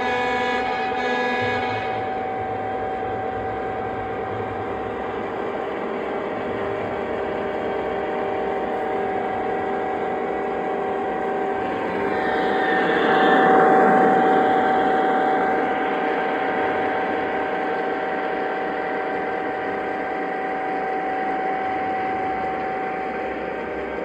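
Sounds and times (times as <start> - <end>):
model train rumbling on track: 0.0 - 24.0.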